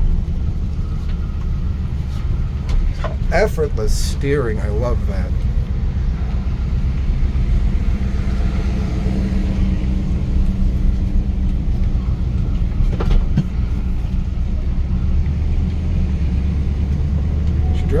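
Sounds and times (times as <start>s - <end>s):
engine and road noise rumble: 0.0s - 18.0s.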